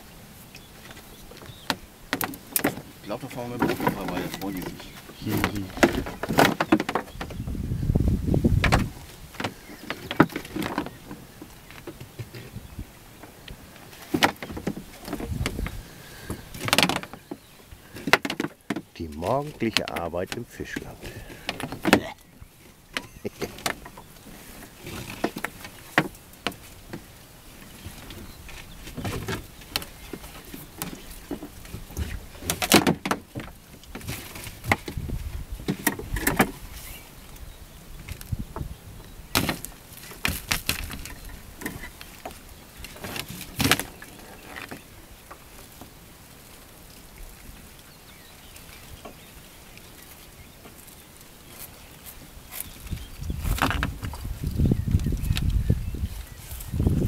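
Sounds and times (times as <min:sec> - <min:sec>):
wet netting rustling: 0:08.3 - 0:38.5, 0:39.1 - 0:57.0.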